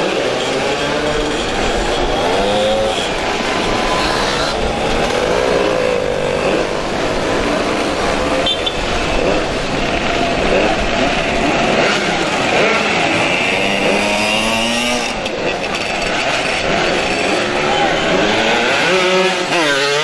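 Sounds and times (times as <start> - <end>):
mopeds and motorcycles pulling away: 0.0 - 20.0.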